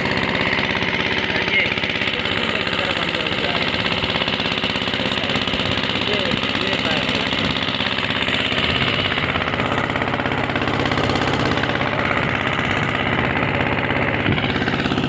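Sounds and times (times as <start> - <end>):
motor boat engine chugging: 0.0 - 15.0.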